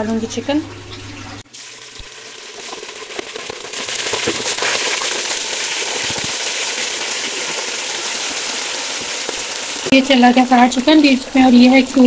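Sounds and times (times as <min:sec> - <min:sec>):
oil sizzling and crackling: 0:00.8 - 0:12.0.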